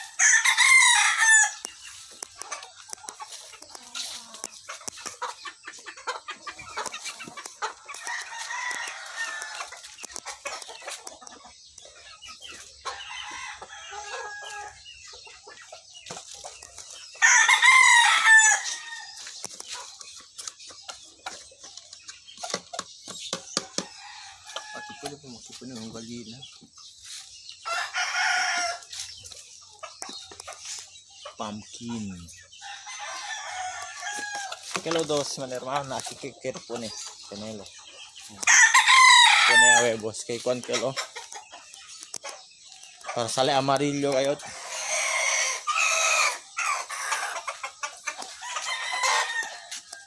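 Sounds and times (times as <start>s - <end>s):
roosters crowing and clucking: 0.0s - 50.0s.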